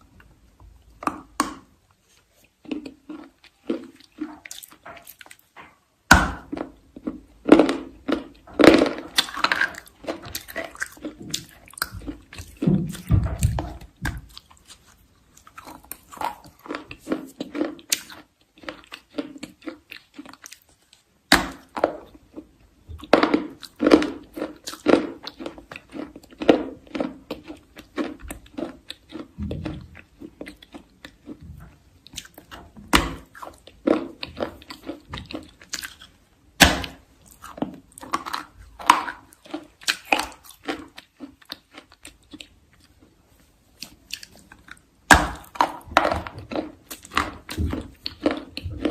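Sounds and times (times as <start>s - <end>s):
crunchy chewing: 1.0s - 5.6s, 6.4s - 48.9s.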